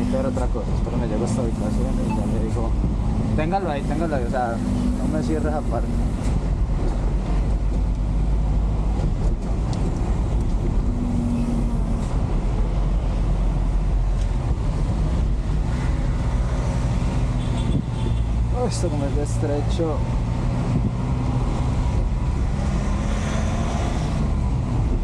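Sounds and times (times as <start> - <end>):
road noise: 0.0 - 25.0.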